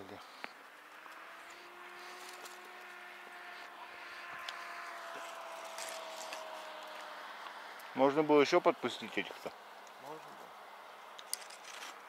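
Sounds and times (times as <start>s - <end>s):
distant engine drone: 0.0s - 11.8s.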